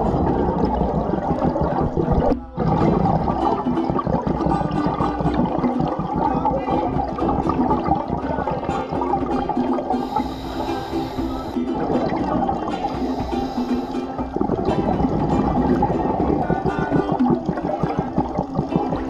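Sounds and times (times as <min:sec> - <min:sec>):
muffled underwater bubbling: 0:00.0 - 0:19.0.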